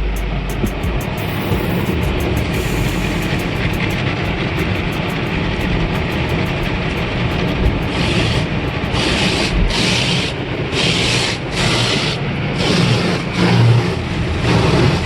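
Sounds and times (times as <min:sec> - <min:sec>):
car wash brushes swishing: 0:00.0 - 0:14.0
low rumble of machinery: 0:00.0 - 0:15.0.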